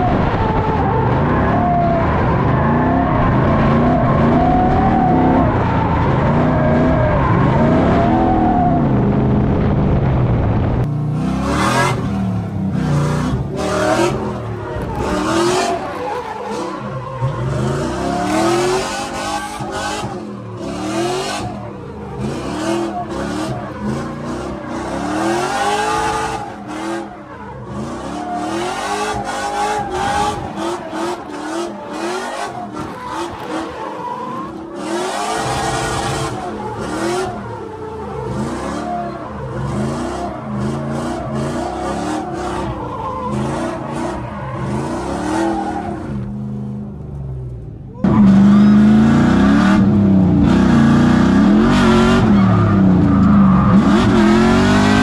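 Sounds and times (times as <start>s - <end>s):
tyres squealing and skidding: 0.0s - 9.0s, 11.2s - 46.8s, 47.8s - 55.0s
car engine revving: 0.0s - 55.0s.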